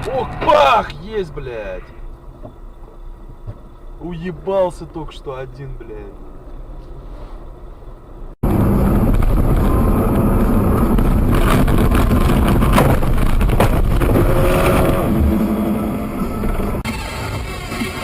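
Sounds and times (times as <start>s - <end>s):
road rumble: 0.0s - 18.0s
vehicle engine: 0.0s - 18.0s
wind: 0.0s - 18.0s.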